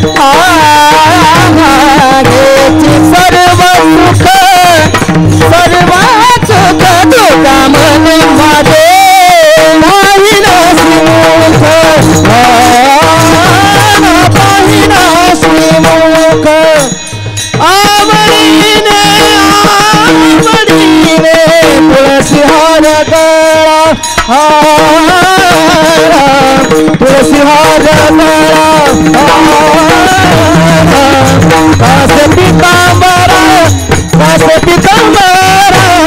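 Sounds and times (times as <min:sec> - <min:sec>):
hand-drum strokes: 0:00.0 - 0:36.0
wavering devotional melody: 0:00.0 - 0:36.0.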